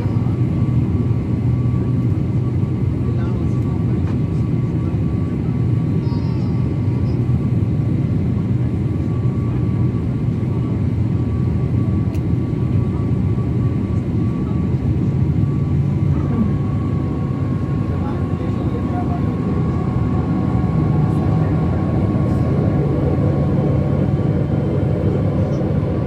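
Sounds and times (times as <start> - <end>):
jet engine whine: 0.0 - 26.0
jet engines low rumble: 0.0 - 26.0.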